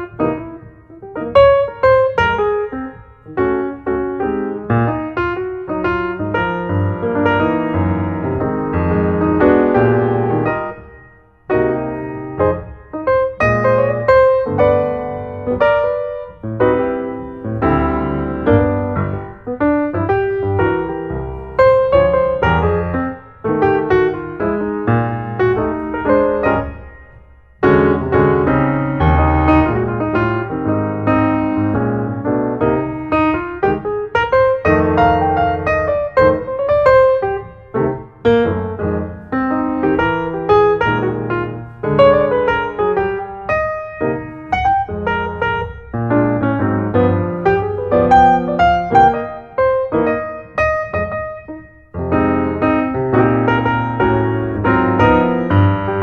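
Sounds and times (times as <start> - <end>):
piano music: 0.0 - 56.0.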